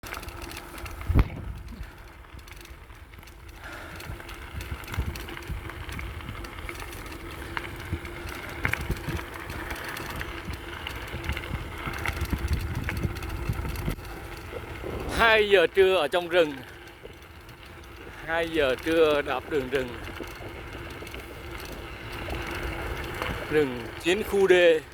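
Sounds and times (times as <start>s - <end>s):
bicycle rattling over rough trail: 0.0s - 24.9s.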